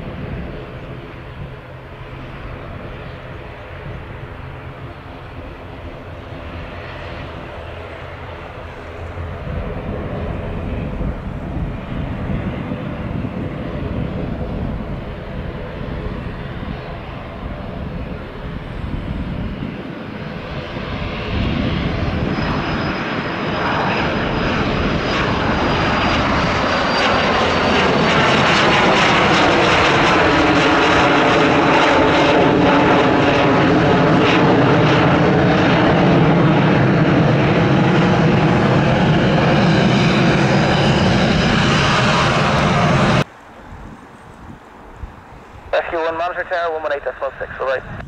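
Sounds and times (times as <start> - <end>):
high jet whine: 0.0 - 48.0
jet engine roar: 0.0 - 48.0.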